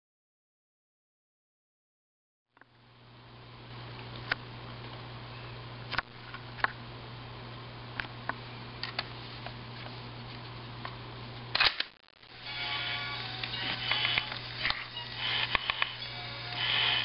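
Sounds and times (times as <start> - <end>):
steady low hum: 2.6 - 17.0.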